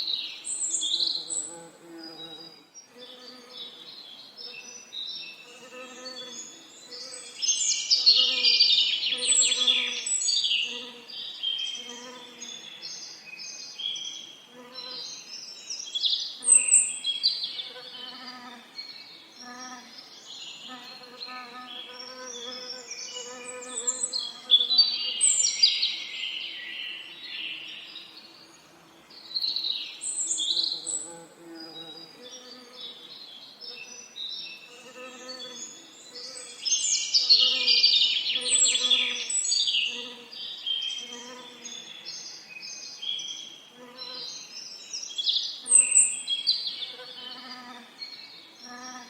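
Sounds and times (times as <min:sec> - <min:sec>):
songbirds chirping and trilling: 0:00.0 - 0:49.0.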